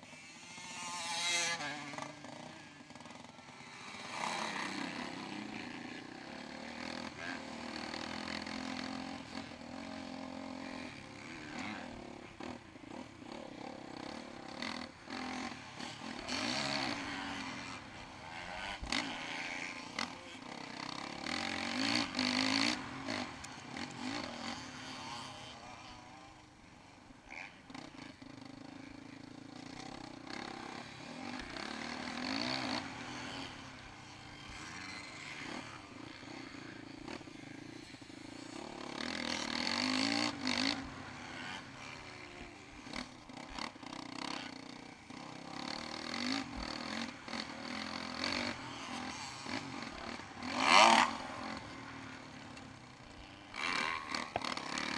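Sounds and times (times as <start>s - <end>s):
motocross engine revving: 0.0s - 54.9s.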